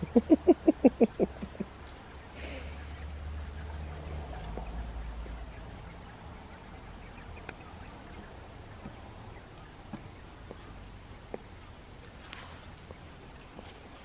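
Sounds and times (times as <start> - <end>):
quail calling: 0.0 - 13.2.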